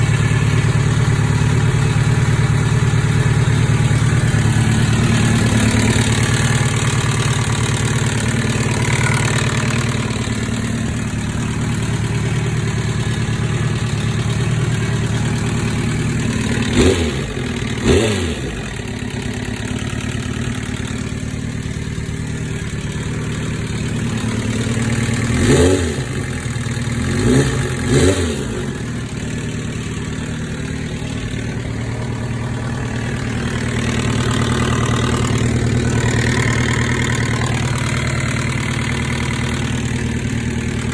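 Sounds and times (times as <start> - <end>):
motorcycle engine idling with rattle: 0.0 - 40.9
motorcycle throttle blips: 0.0 - 40.9.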